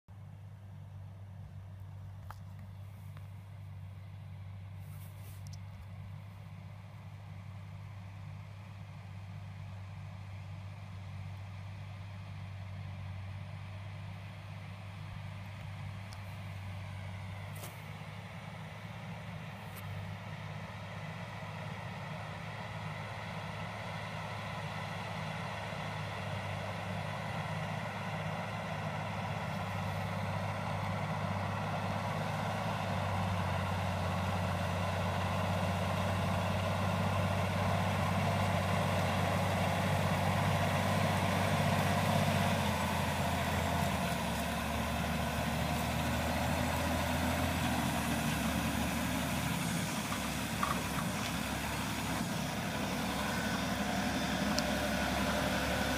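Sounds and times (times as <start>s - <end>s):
heavy engine humming: 0.1s - 55.9s.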